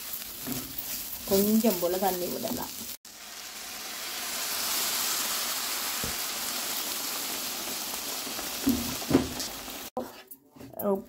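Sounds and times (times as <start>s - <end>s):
food sizzling in a pan: 0.0s - 10.0s
water hissing in a hot pan: 0.0s - 10.0s.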